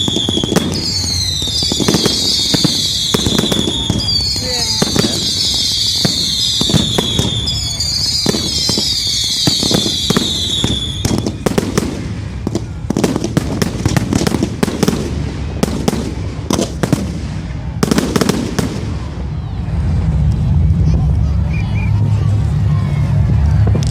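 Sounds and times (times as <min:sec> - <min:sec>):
whistling fireworks: 0:00.0 - 0:23.8
firework bangs and crackles: 0:00.0 - 0:23.9.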